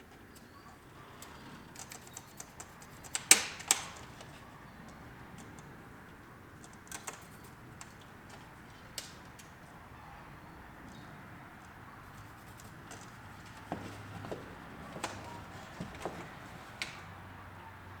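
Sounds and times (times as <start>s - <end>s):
hand tools clicking and tapping: 0.1s - 9.8s, 11.6s - 17.2s.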